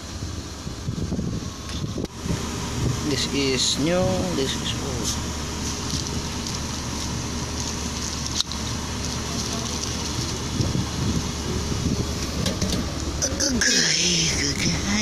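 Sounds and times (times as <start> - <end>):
server cooling fans whirring: 0.0 - 15.0.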